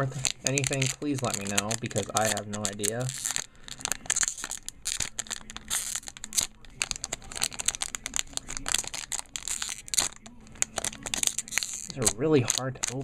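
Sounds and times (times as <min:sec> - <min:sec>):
card pack wrapper crinkling: 0:00.0 - 0:13.0.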